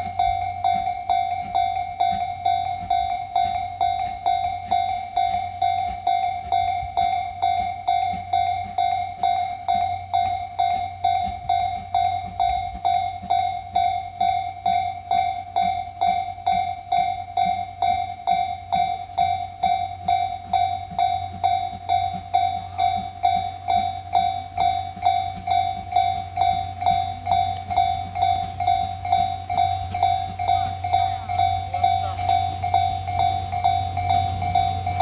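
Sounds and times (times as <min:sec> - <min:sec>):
level crossing warning bell: 0:00.0 - 0:35.0.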